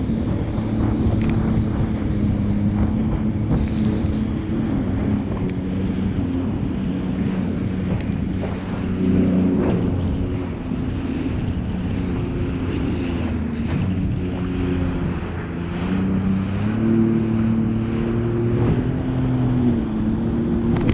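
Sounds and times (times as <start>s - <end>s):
jet ski engine running: 0.0s - 20.9s
water noise: 0.0s - 20.9s
wind buffeting microphone: 0.0s - 20.9s.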